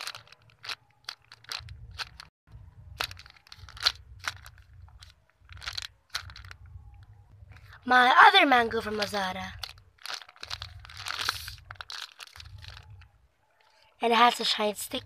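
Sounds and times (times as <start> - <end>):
faint low rumble: 0.0 - 13.6
plastic bag crinkling: 0.0 - 14.6.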